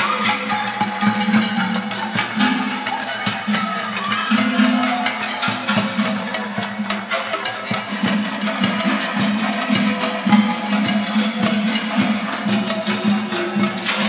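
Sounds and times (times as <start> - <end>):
drumming on metal pots and pans: 0.0 - 14.0.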